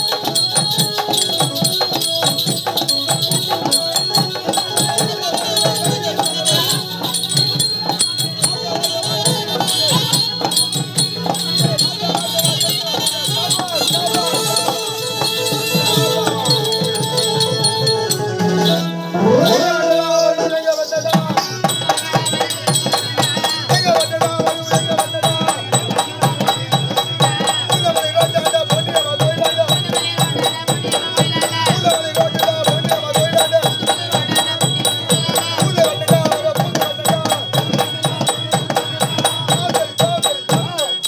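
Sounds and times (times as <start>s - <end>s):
hand drum fast beat: 0.0s - 18.6s, 21.0s - 41.0s
wavering melody: 0.0s - 41.0s.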